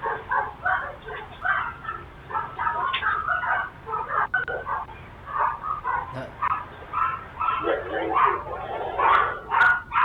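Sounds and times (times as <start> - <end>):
dog barking rapidly: 0.0 - 10.0.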